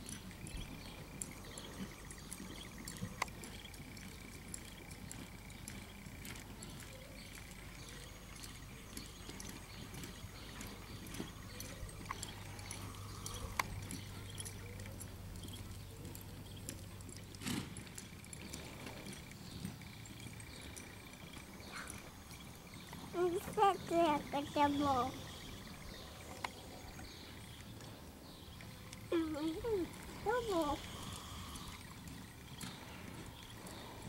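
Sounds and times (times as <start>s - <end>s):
faint steady low hum: 0.0s - 34.0s
soft hoofbeats on dirt: 0.0s - 34.0s.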